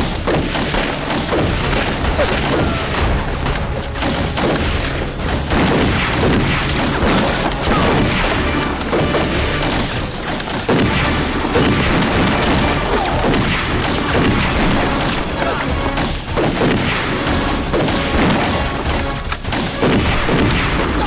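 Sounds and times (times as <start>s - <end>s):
dramatic background music: 0.0s - 21.0s
heavy booms: 0.0s - 21.0s
rapid gunshots: 0.0s - 21.0s.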